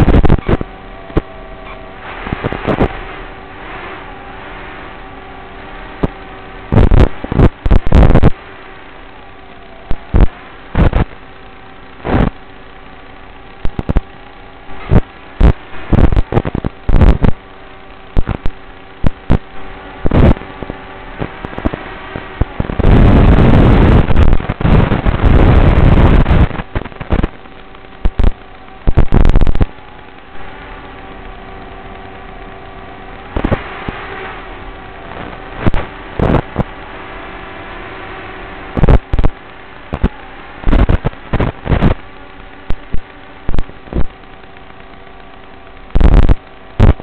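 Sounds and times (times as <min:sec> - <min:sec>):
crackling radio static: 0:00.0 - 0:47.0
electrical hum and hiss: 0:00.0 - 0:47.0.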